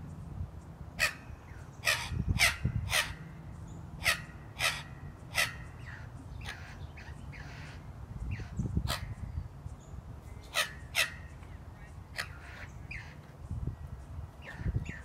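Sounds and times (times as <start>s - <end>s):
birds giving harsh calls: 0.9s - 15.0s.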